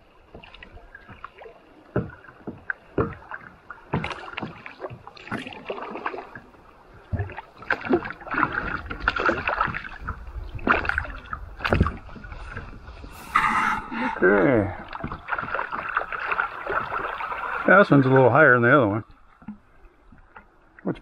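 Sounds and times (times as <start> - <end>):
paddle strokes splashing: 0.0 - 20.6
water dripping: 0.3 - 21.0.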